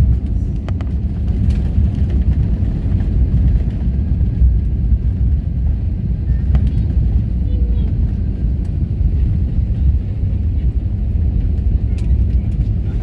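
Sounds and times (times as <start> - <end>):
airliner low rumble: 0.0 - 13.0.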